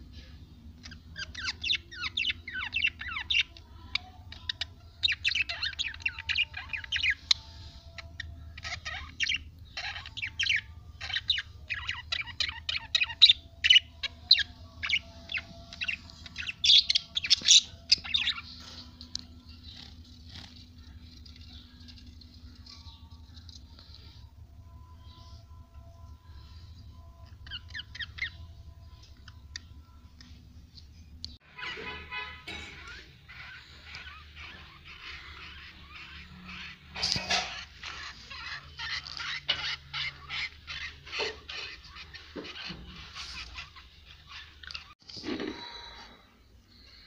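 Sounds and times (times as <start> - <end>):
budgerigars chattering and chirping: 0.8 - 24.2, 27.3 - 29.7, 31.6 - 45.0.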